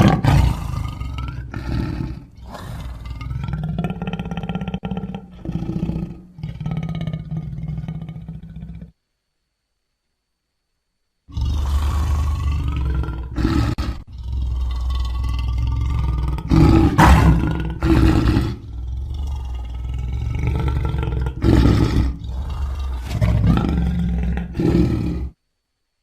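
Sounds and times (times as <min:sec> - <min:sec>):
big cat growling and roaring: 0:00.0 - 0:08.9, 0:11.3 - 0:25.4.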